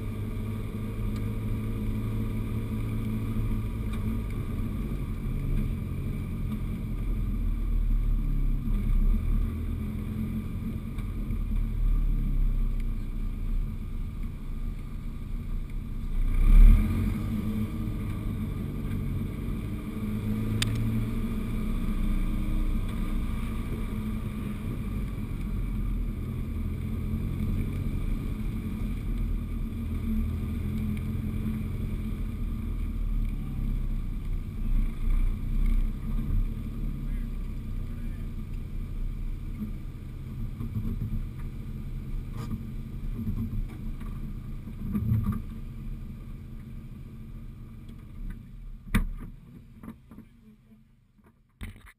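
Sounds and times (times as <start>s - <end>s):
car engine running at low speed: 0.0s - 51.9s.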